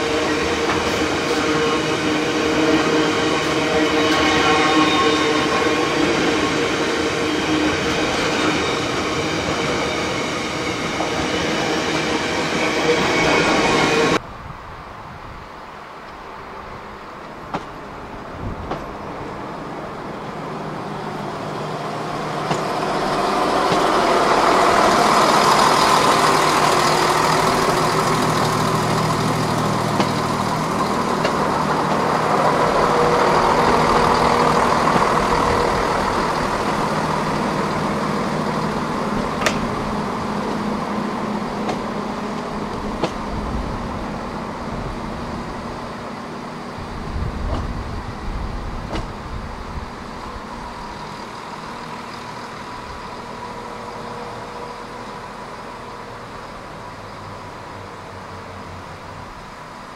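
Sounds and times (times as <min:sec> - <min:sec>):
diesel train engines running: 0:00.0 - 0:14.2, 0:15.5 - 0:59.9
wheel and rail noise: 0:00.0 - 0:59.9.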